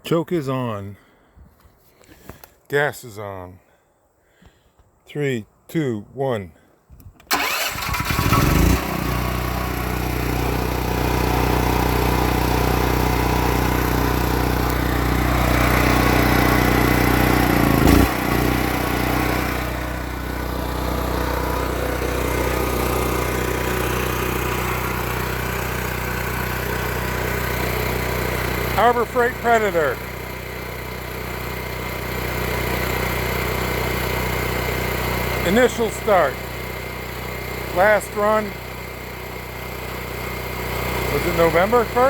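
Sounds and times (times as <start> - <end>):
generator engine starting and running: 7.2 - 42.0.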